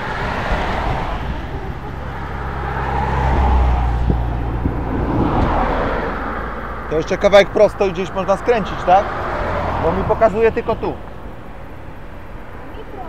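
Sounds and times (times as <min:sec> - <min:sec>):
traffic passing on road: 0:00.0 - 0:13.0.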